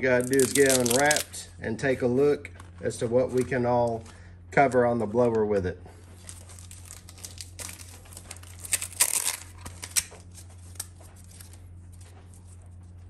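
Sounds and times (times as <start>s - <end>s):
foil sheet crinkling: 0.0s - 4.3s, 5.0s - 13.0s
steady low hum: 0.0s - 13.0s.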